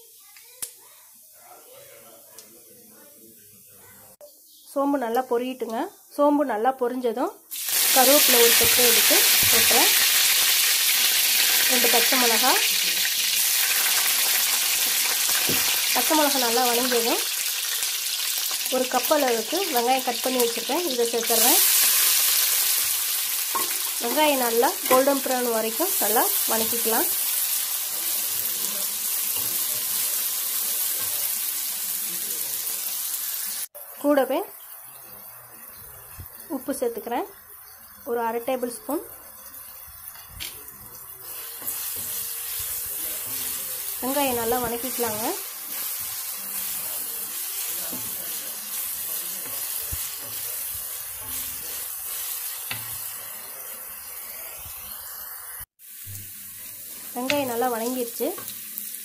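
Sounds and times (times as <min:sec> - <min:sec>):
onions sizzling in hot oil: 0:04.4 - 0:59.0.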